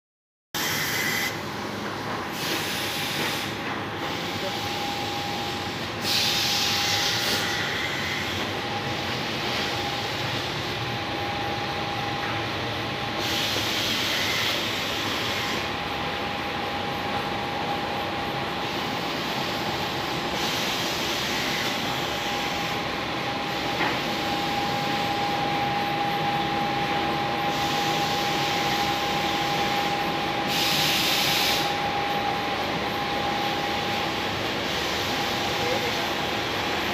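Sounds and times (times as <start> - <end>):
laminating machine hum and whine: 0.6 - 36.9.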